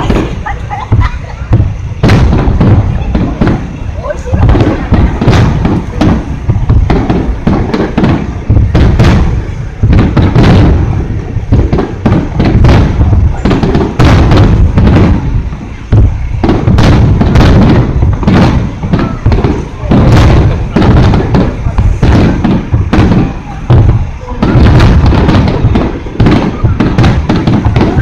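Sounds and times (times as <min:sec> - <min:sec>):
firework shells booming: 0:00.0 - 0:28.0.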